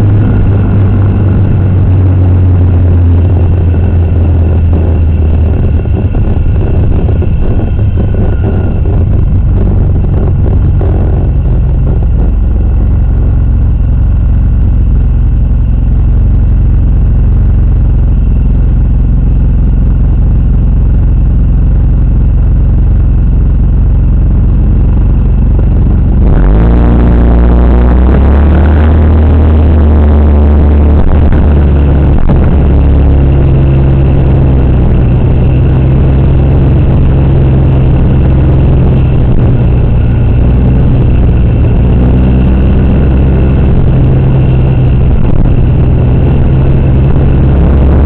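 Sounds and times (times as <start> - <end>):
road and traffic rumble: 0.0 - 48.0.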